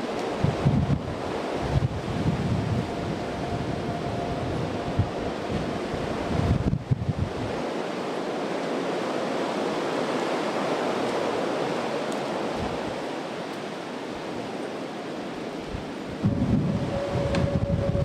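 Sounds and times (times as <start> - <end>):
wind rushing through trees: 0.0 - 18.0.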